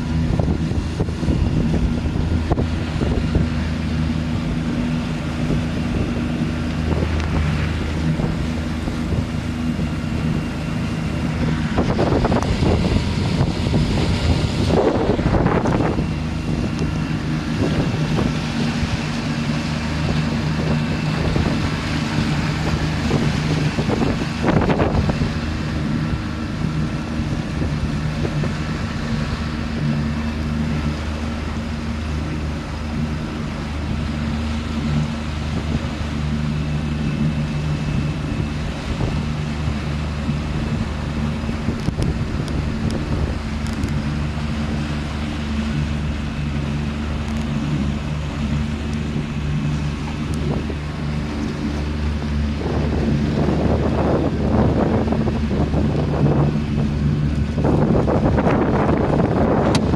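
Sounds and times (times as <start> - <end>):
motorboat engine running: 0.0 - 59.9
wind buffeting microphone: 0.0 - 59.9.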